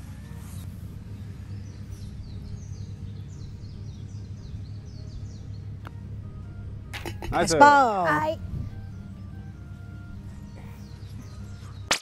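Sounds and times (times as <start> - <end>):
bird chirping: 0.0 - 7.3, 8.4 - 11.9
low outdoor rumble: 0.0 - 11.9.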